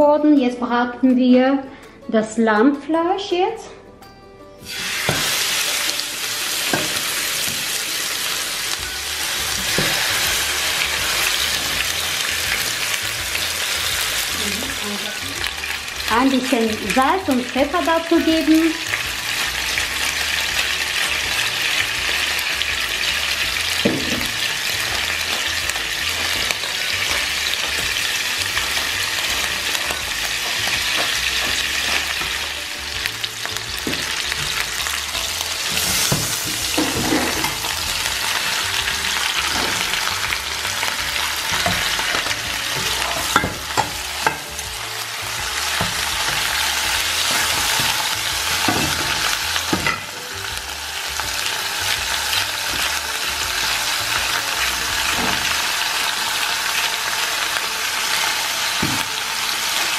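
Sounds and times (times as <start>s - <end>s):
meat sizzling in oil: 4.6s - 59.9s.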